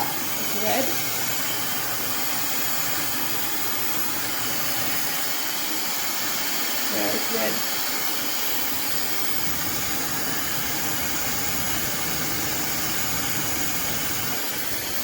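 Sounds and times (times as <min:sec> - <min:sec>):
hair dryer blowing air: 0:00.0 - 0:15.0.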